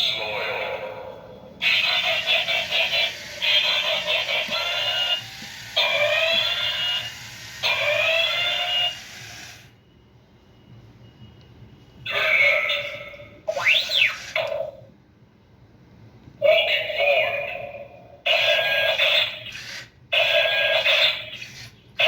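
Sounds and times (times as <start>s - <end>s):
toy robot warbling alarm tones: 0.0s - 9.8s, 12.0s - 14.9s, 16.4s - 22.0s.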